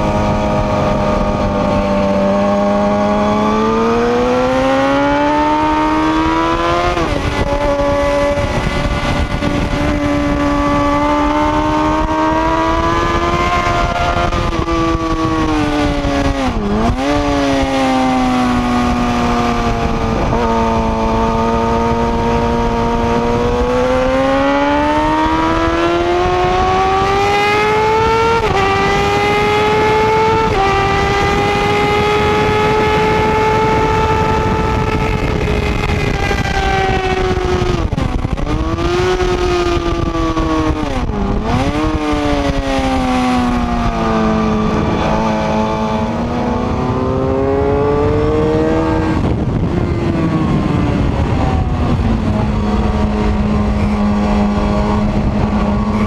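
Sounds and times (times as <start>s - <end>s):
motorcycle engine accelerating: 0.0s - 56.0s
wind rushing over microphone: 0.0s - 56.0s.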